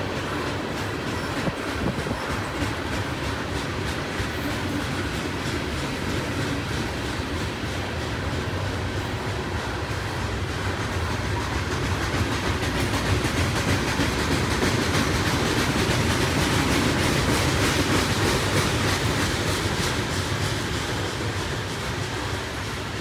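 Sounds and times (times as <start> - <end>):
steel wheels rumbling on rail: 0.0 - 23.0.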